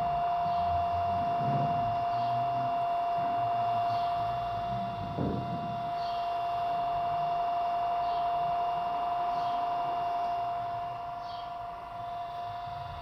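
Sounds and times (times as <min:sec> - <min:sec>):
electric pump whining: 0:00.0 - 0:13.0.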